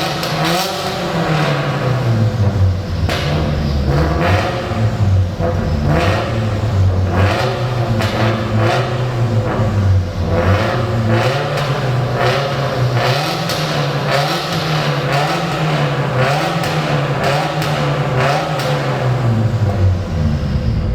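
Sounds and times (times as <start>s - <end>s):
car exhaust droning: 0.0s - 20.9s
sharp engine revs: 0.0s - 20.9s.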